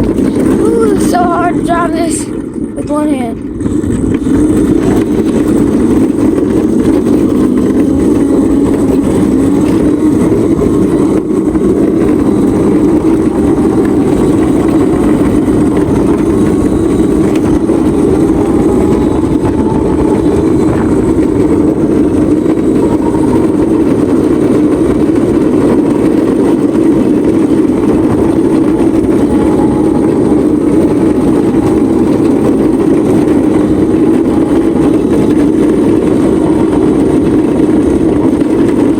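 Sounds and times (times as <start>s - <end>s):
faint whine: 0.0s - 38.9s
ride-on vehicle motor rumble: 0.0s - 38.9s.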